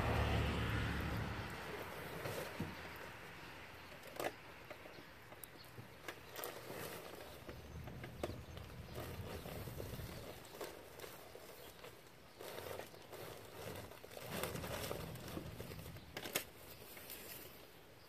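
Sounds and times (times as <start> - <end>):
plastic bags dragged across truck bed: 0.0 - 3.5, 6.1 - 17.7.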